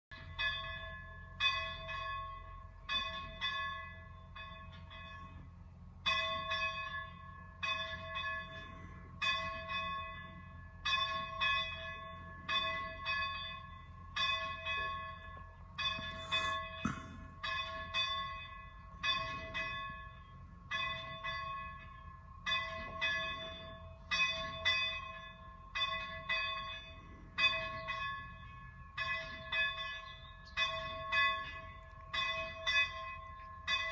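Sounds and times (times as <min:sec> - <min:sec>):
church bell ringing: 0:00.1 - 0:33.9.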